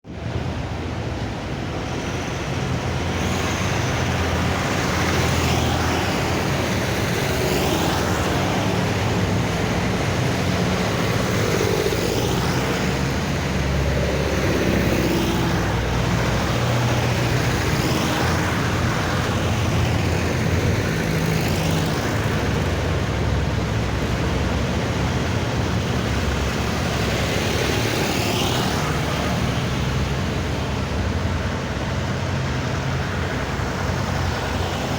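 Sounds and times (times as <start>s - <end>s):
tractors driving past: 0.1s - 34.9s.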